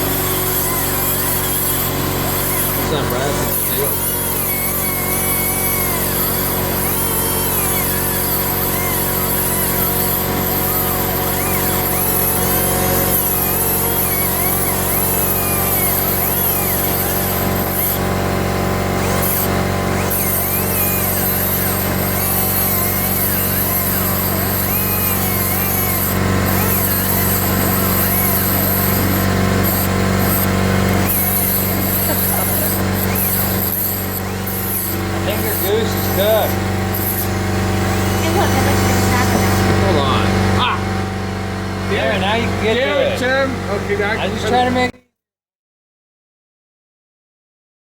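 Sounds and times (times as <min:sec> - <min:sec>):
air die grinder whining: 0:00.0 - 0:44.9
low machine hum: 0:00.0 - 0:44.9.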